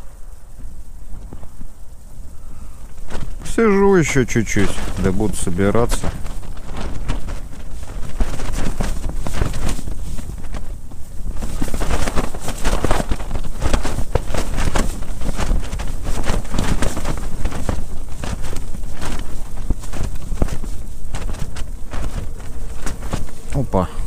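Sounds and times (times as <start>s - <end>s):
tent fabric flapping: 0.0s - 24.0s
wind rumble on microphone: 0.0s - 24.0s.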